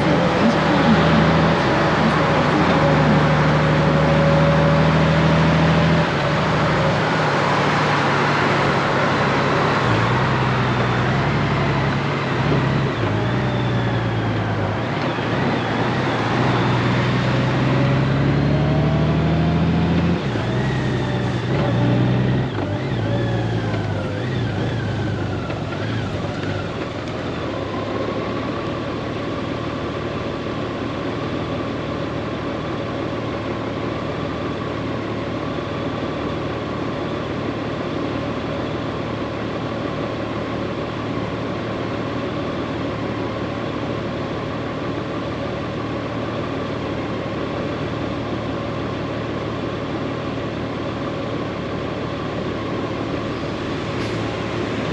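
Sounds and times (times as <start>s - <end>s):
motorcycle engine drone: 0.0s - 54.9s
road and wind noise: 0.0s - 54.9s.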